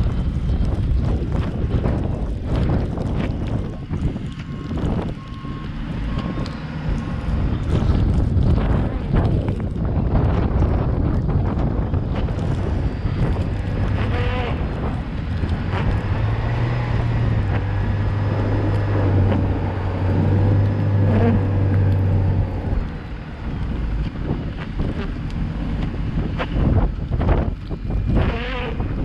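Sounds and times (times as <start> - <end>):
car engine and road rumble: 0.0 - 29.0
wind on microphone: 0.0 - 29.0
low drone: 4.3 - 29.0.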